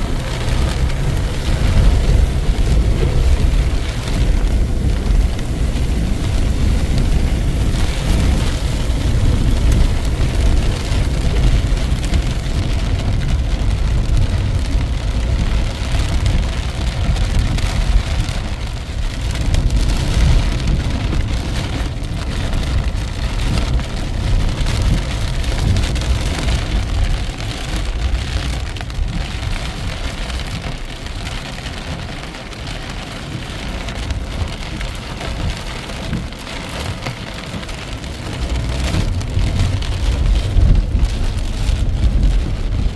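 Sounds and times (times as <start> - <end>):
heavy rain pouring: 0.0 - 42.9
low rumble: 0.0 - 42.9.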